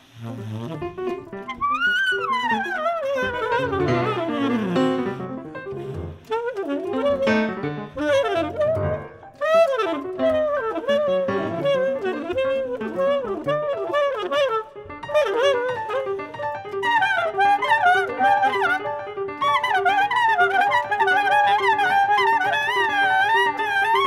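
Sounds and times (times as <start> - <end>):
piano notes: 0.0 - 24.0
tenor saxophone improvising: 0.0 - 24.0.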